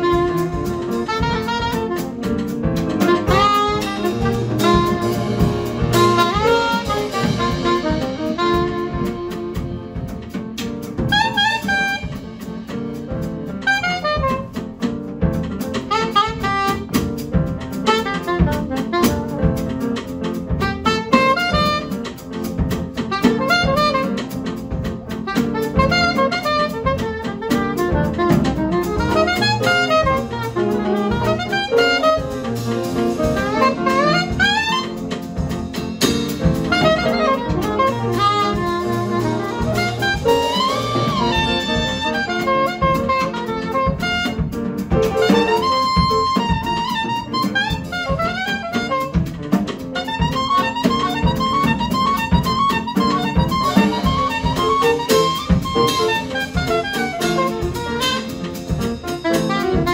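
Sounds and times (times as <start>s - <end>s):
saxophone melodic runs: 0.0s - 10.0s, 11.0s - 12.3s, 13.6s - 14.6s, 15.8s - 19.8s, 20.6s - 22.2s, 23.0s - 24.3s, 25.2s - 59.9s
drum kit with cymbals: 0.0s - 59.9s
grand piano: 0.0s - 59.9s.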